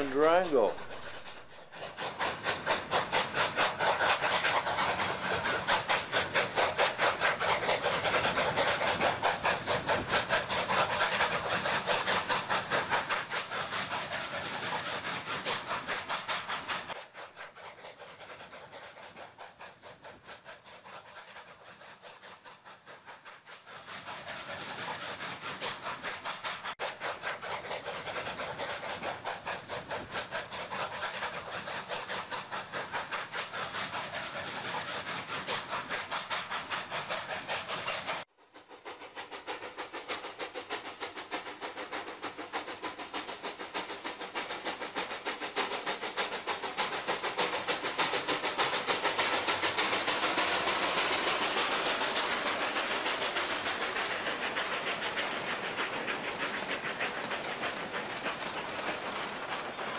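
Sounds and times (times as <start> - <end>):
hiss of steam: 0.0 - 59.9
steam locomotive chuffing: 0.0 - 59.9.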